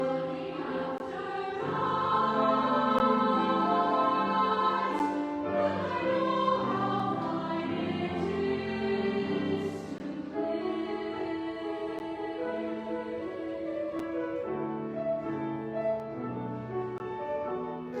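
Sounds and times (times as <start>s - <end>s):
children's choir singing: 0.0s - 15.6s.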